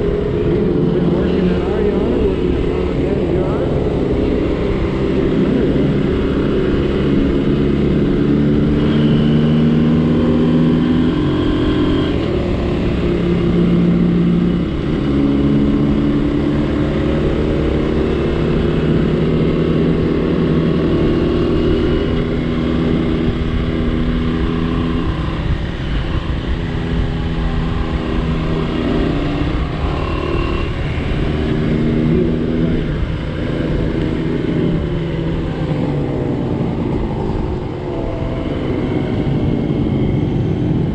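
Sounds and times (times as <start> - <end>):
small motorcycle engine running: 0.0 - 40.9
wind rumble on microphone: 0.0 - 40.9.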